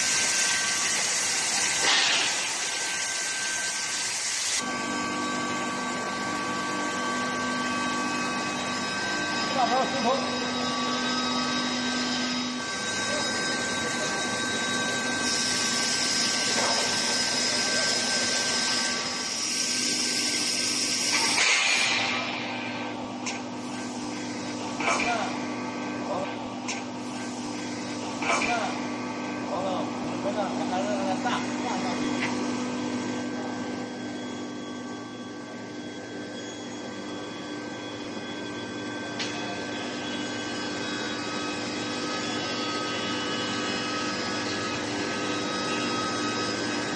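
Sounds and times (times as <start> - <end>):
high steady whine: 0.0 - 46.9
industrial hum: 0.0 - 46.9.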